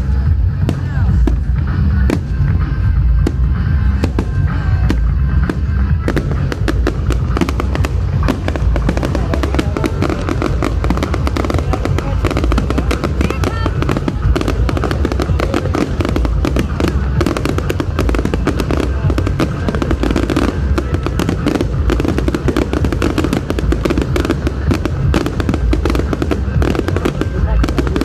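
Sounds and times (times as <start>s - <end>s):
fireworks bangs and crackles: 0.0s - 28.0s
low rumble: 0.0s - 28.0s.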